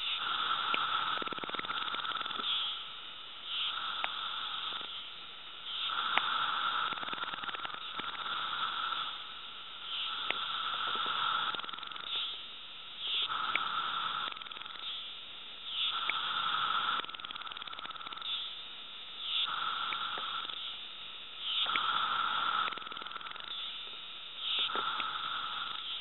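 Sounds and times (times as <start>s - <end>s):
cicadas chorus calling: 0.0s - 12.4s, 13.0s - 18.6s, 19.2s - 20.8s, 21.4s - 26.0s
steady whine: 0.0s - 26.0s.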